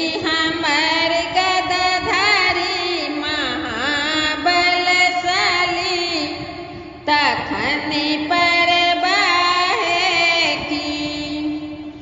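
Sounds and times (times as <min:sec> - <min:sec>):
devotional singing: 0:00.0 - 0:12.0.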